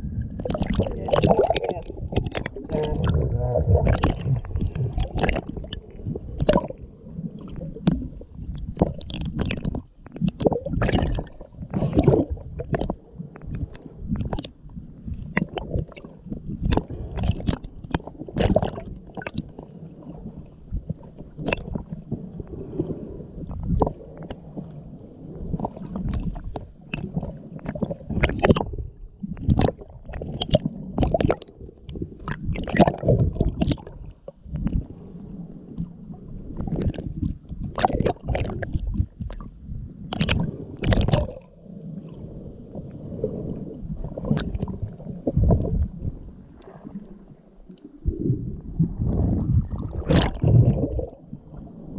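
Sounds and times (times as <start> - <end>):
water gurgling underwater: 0.0 - 51.9.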